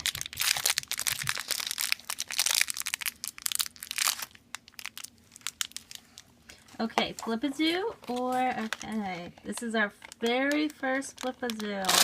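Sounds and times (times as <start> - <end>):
packaging crinkling: 0.0 - 6.9, 8.0 - 12.0.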